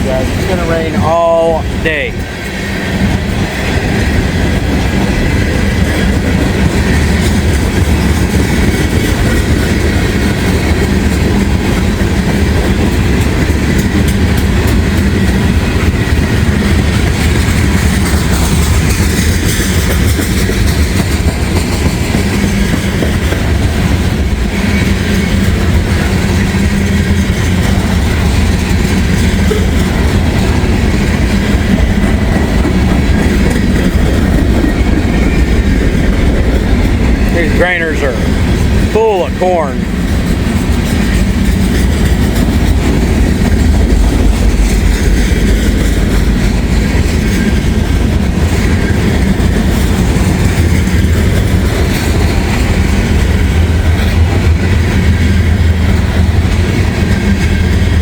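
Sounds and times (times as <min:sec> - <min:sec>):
freight cars rumbling on rails: 0:00.0 - 0:58.0.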